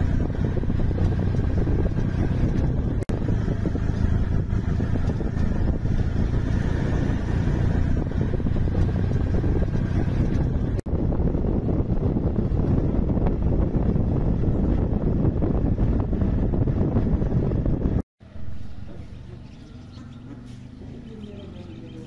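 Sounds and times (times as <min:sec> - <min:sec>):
auto-rickshaw engine running: 0:00.0 - 0:22.0
road noise: 0:00.0 - 0:22.0.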